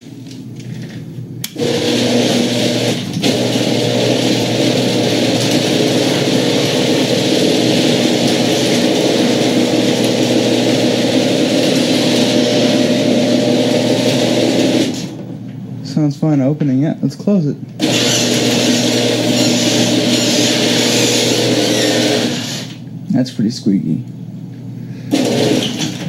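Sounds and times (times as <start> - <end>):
garage door opener motor hum: 0.6 - 15.6, 17.8 - 22.9, 25.0 - 26.0.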